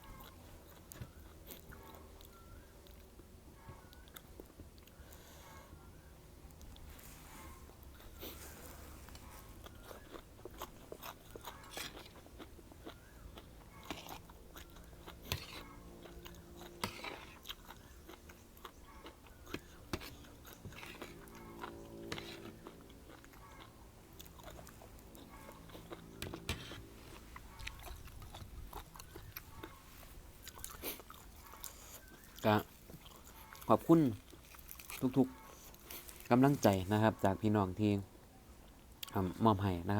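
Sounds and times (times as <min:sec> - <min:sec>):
food crunching: 0:00.0 - 0:03.3, 0:06.4 - 0:37.8
person chewing food: 0:00.0 - 0:05.8, 0:06.4 - 0:37.8, 0:38.6 - 0:39.6.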